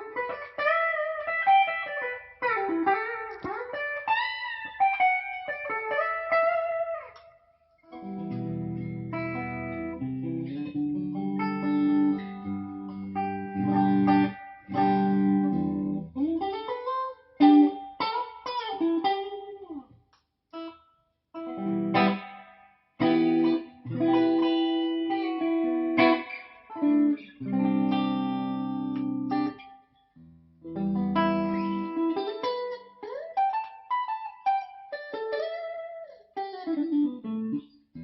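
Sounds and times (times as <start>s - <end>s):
clean electric guitar: 0.0s - 20.8s, 21.4s - 38.0s.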